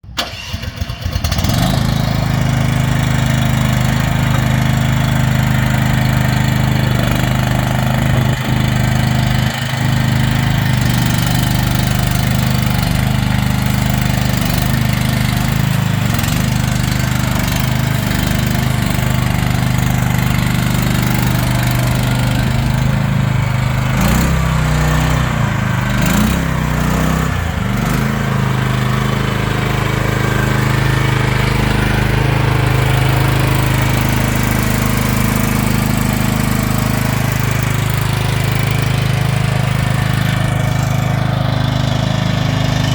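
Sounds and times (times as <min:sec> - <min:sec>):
skid steer engine running: 0:00.0 - 0:42.9.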